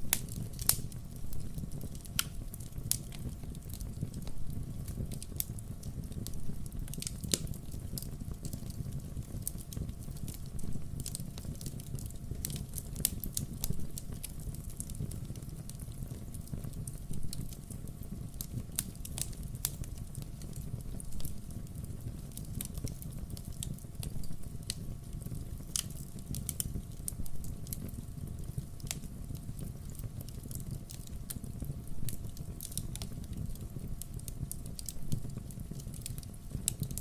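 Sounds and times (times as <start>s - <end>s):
firewood crackling and popping: 0.0s - 37.0s
low rumble of fire: 0.0s - 37.0s.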